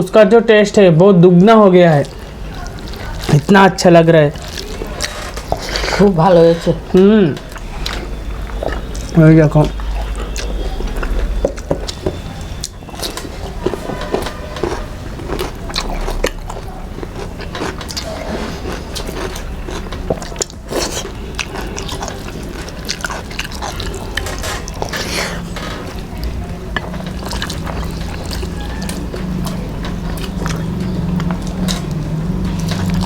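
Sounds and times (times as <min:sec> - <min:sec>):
person chewing food: 0:01.8 - 0:33.0.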